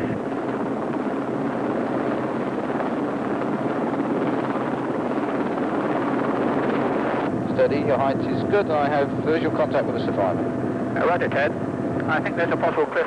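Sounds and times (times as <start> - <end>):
helicopter rotor and engine noise: 0.0 - 13.0.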